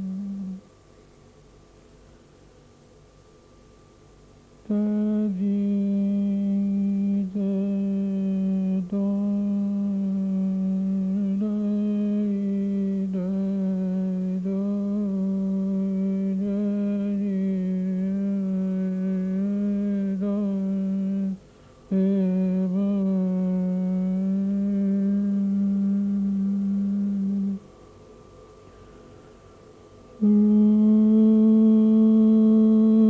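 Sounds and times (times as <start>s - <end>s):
person humming low note: 0.0s - 0.7s, 4.6s - 27.7s, 30.2s - 33.0s.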